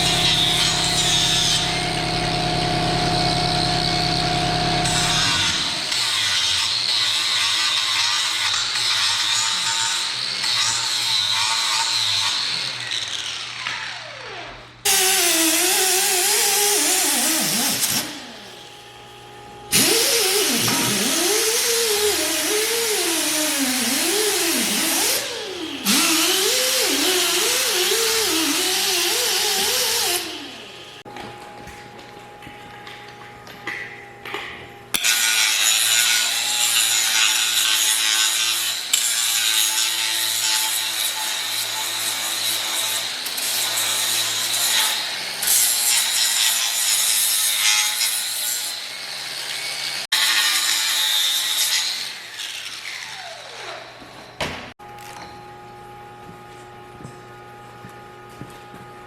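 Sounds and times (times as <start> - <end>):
grinder disc cutting metal: 0.0 - 31.1, 32.5 - 54.4
power grinder whining: 0.0 - 55.0.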